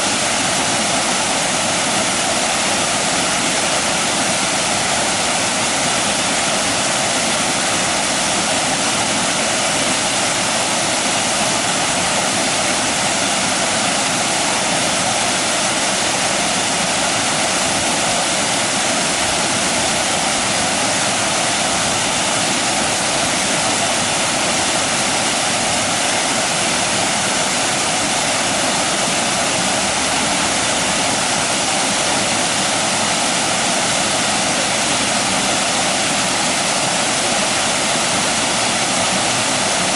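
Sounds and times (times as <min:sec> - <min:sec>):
water rushing over small waterfall: 0:00.0 - 0:39.9.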